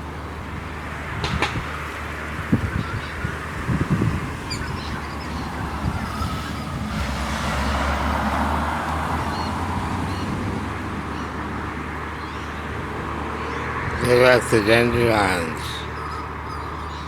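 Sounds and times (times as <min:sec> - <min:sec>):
vehicle passing: 0:00.0 - 0:17.0.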